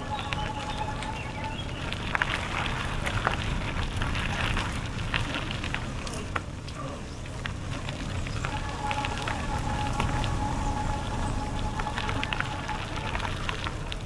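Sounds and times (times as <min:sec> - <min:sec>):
bicycle tyres crackling and rattling: 0:00.0 - 0:14.0
wind on microphone: 0:00.0 - 0:14.0.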